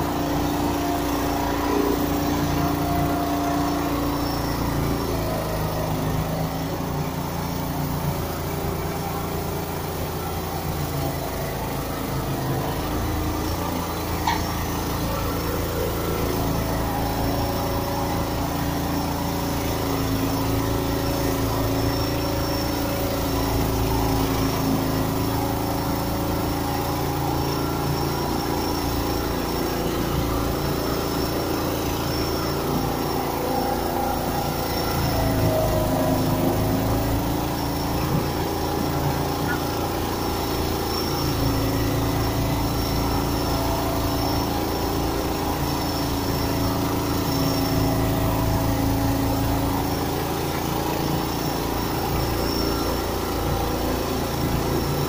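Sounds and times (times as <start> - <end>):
straw bedding machine running: 0.0 - 55.0.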